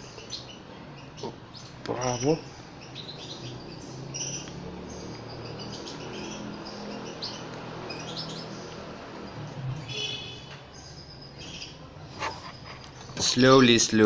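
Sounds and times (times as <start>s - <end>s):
chicks cheeping: 0.0s - 13.3s.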